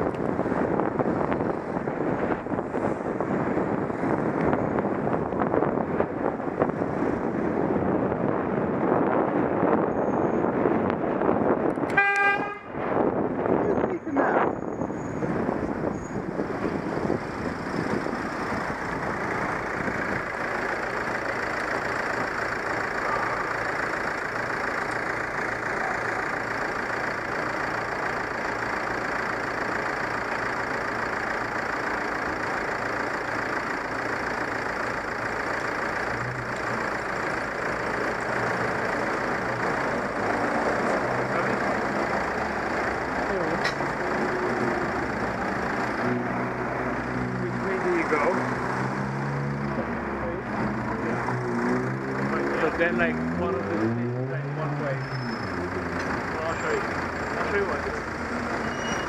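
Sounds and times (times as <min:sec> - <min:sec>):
road traffic noise: 0:00.0 - 0:59.0
vehicle engines running: 0:00.0 - 0:59.0.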